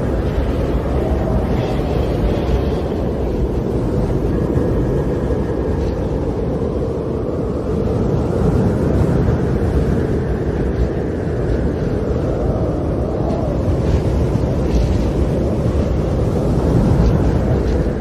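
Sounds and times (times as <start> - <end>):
storm wind rumble: 0.0 - 18.0.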